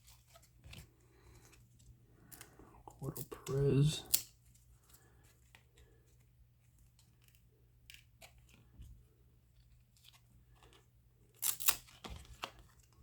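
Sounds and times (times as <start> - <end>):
paper cards clicking and rustling: 0.0 - 8.9, 9.6 - 13.0.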